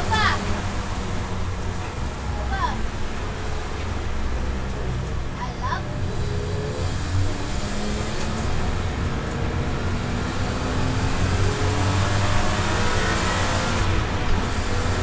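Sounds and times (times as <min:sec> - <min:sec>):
car engine accelerating: 0:00.0 - 0:15.0
tyre and road noise: 0:00.0 - 0:15.0.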